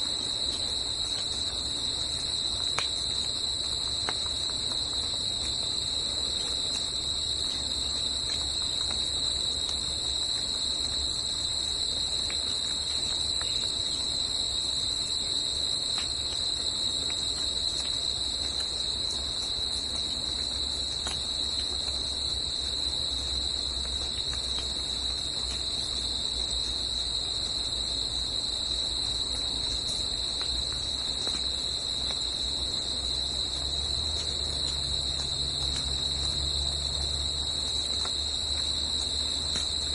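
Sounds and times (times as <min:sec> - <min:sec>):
insects chorus droning: 0:00.0 - 0:39.9.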